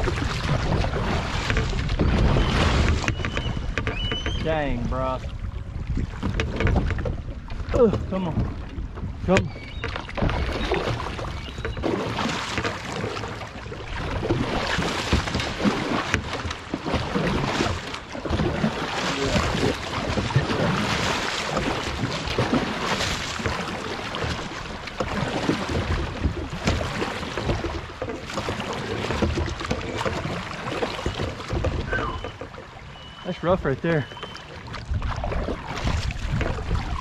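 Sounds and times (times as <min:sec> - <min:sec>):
paddle strokes splashing: 0:00.0 - 0:37.0.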